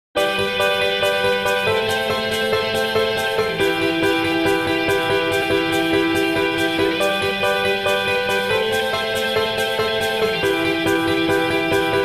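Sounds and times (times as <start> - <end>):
melodic instrumental tune: 0.2 - 12.0.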